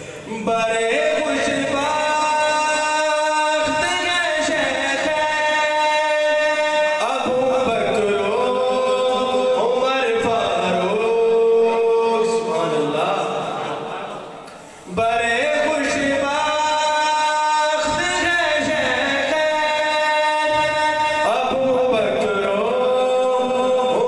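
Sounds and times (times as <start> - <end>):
man singing into a microphone: 0.0 - 13.9, 14.8 - 24.0.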